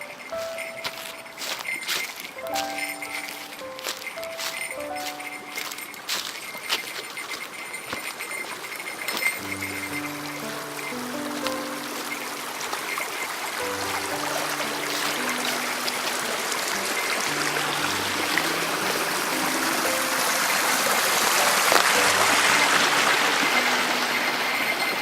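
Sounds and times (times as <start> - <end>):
mountain stream rushing: 0.0 - 25.0
soft background music: 0.0 - 25.0.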